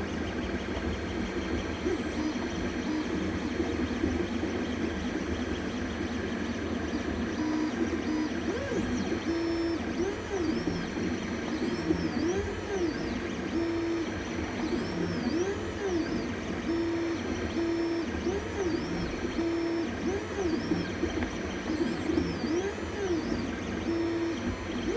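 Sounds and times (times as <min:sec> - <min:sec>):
printer stepper motors whining: 0:00.0 - 0:24.9.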